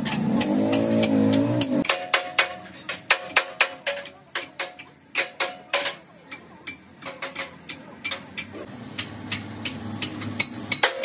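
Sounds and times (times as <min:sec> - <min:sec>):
sharp metallic knocks: 0:00.0 - 0:11.0.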